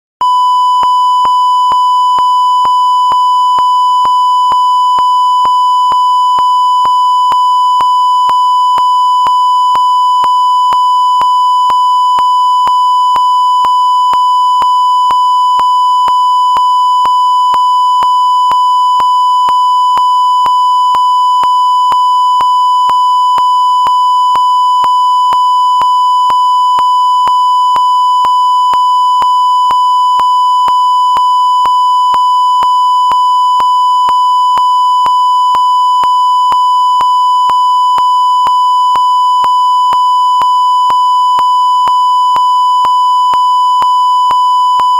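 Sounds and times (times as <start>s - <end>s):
steady electronic beep tone: 0.2s - 44.9s.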